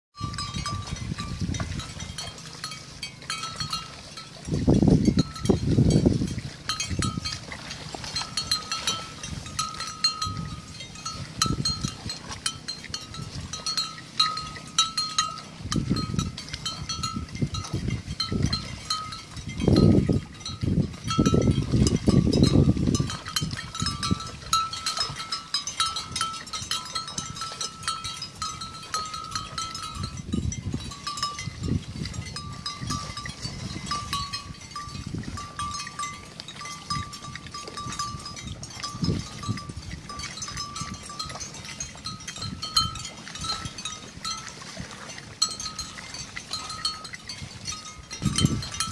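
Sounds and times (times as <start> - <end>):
rustling and splashing: 0.2 - 48.9.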